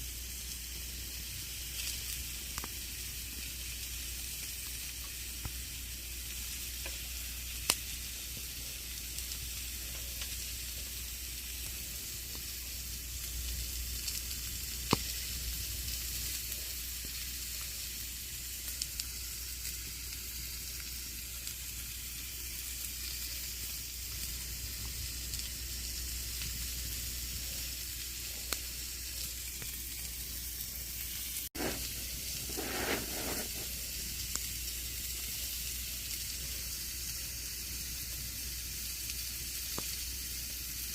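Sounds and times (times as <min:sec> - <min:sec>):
campfire crackling: 0:00.1 - 0:40.9
fire popping: 0:00.1 - 0:40.9.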